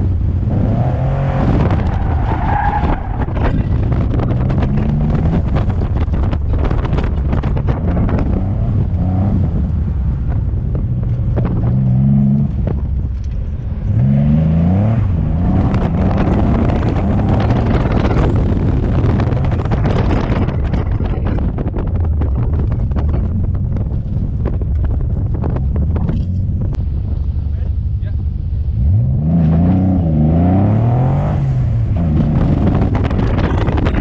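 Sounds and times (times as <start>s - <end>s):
car engine accelerating: 0.0s - 34.0s
wind noise on microphone: 0.0s - 34.0s.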